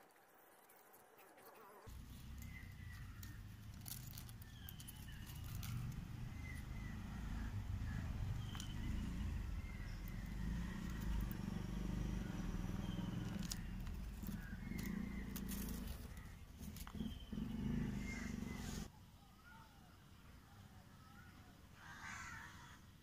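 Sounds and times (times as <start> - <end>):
birds chirping: 1.6 - 23.0.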